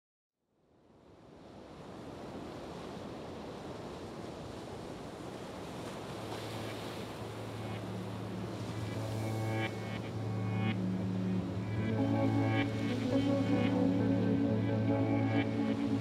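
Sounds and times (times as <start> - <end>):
surf-like rushing wash: 1.4 - 16.0.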